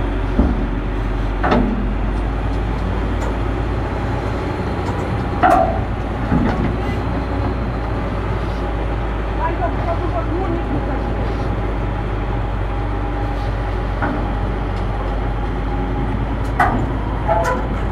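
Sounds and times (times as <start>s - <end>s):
heavy diesel engines rumbling: 0.0s - 17.9s.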